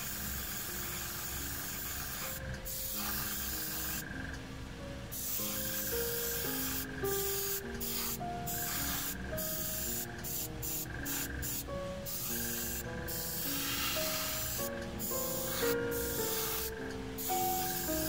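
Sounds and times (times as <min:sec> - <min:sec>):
airbrush hissing: 0:00.0 - 0:04.3, 0:05.1 - 0:18.0
slow background music: 0:00.0 - 0:18.0.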